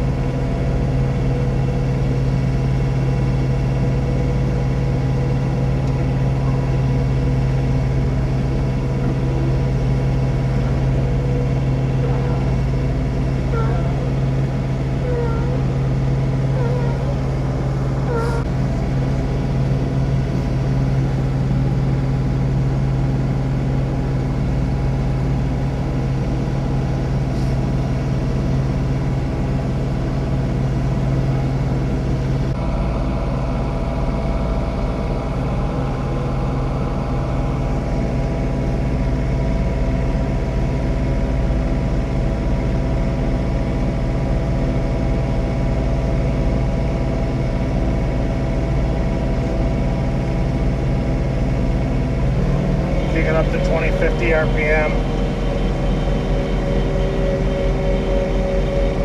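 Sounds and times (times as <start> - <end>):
higher steady machinery tones: 0.0 - 59.0
tractor diesel engine running: 0.0 - 59.0.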